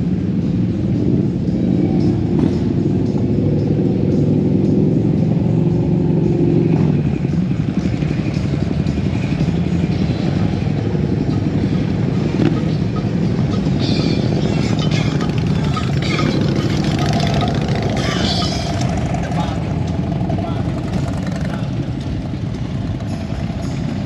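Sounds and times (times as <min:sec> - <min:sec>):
motorcycle engines running: 0:00.0 - 0:24.0.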